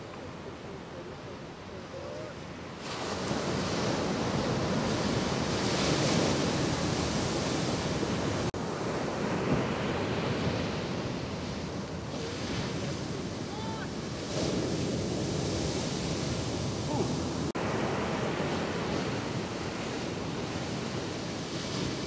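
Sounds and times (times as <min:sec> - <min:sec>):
ocean waves crashing: 0:00.0 - 0:22.0.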